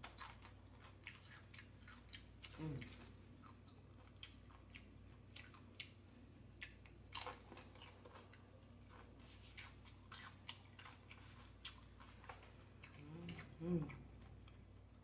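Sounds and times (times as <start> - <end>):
chewing crunchy chips: 0.0 - 15.0.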